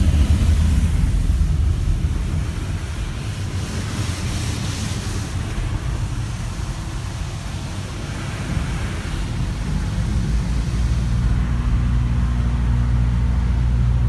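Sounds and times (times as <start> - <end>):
car wash rushing water: 0.0 - 14.0
low rumble: 0.0 - 14.0.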